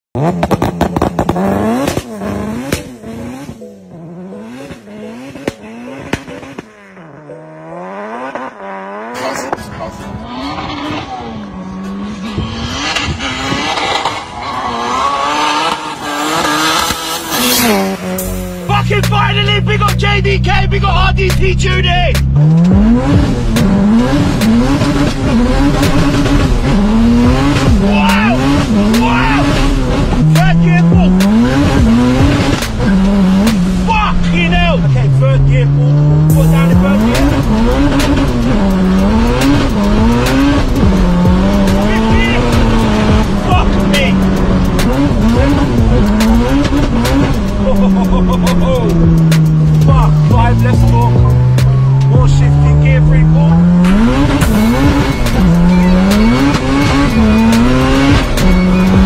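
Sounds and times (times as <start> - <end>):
car engine revving: 0.0 - 59.0
exhaust crackles and pops: 0.1 - 3.0, 12.3 - 35.6, 36.2 - 59.0.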